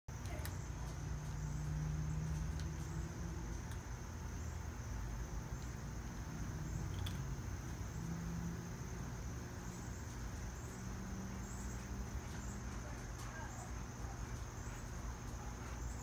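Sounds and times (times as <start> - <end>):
insects chirring: 0.1 - 16.0
low background rumble: 0.1 - 16.0.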